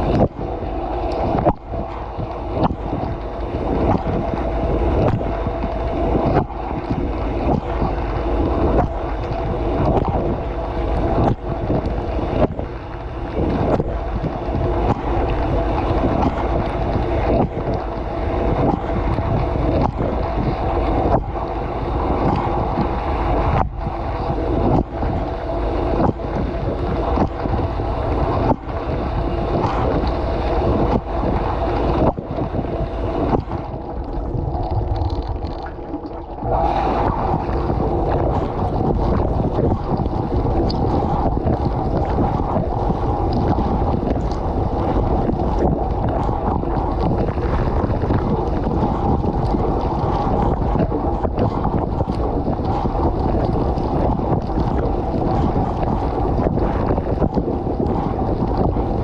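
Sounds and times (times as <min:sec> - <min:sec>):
dishwasher pump hum: 0:00.0 - 0:59.0
water spraying and splashing: 0:00.0 - 0:59.0.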